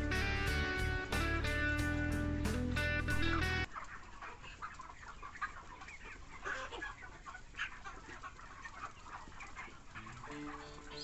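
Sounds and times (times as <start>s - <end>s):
chickens clucking and chirping: 0.0s - 11.0s.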